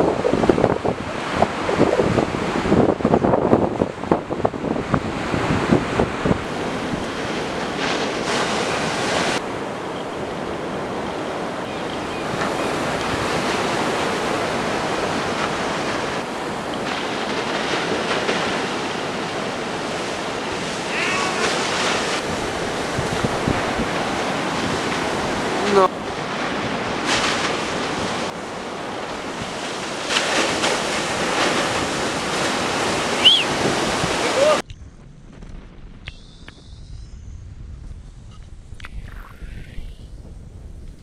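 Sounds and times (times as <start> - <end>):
surf: 0.0 - 34.6
wind: 0.0 - 41.0
wind buffeting microphone: 0.0 - 41.0.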